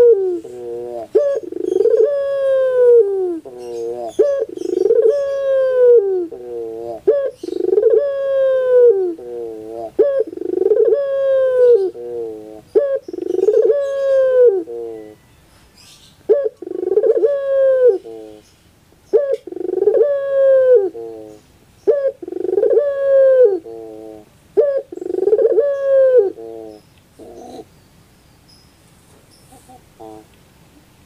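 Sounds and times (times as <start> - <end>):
dove cooing: 0.0 - 15.2, 16.3 - 18.4, 19.1 - 27.7, 29.4 - 30.4.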